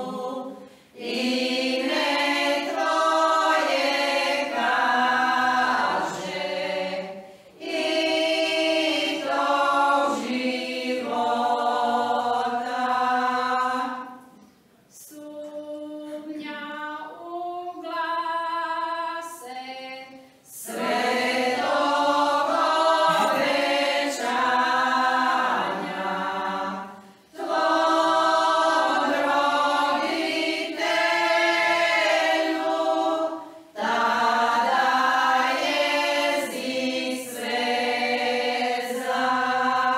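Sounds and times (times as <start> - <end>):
women's choir singing a cappella: 0.0 - 39.9.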